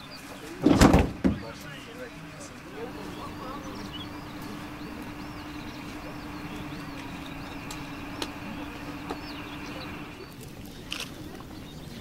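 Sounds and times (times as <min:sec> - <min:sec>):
steady mechanical hum: 0:00.0 - 0:11.5
bird chirping: 0:00.0 - 0:12.0.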